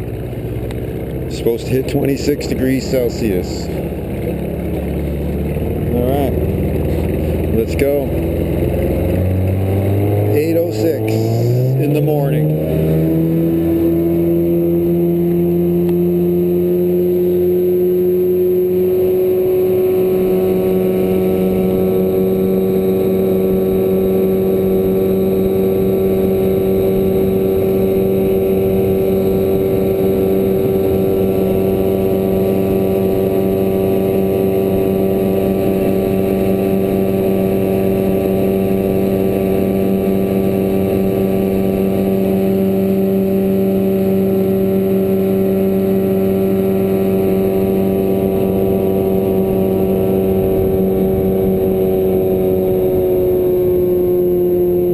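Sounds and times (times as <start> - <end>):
boat motor running: 0.0 - 54.9.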